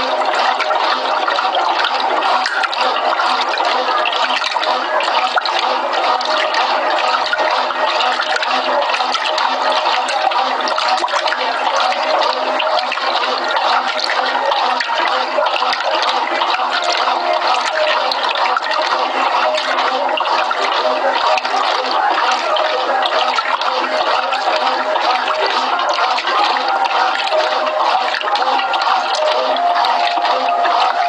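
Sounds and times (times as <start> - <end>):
water churning in washing machine: 0.0 - 31.0.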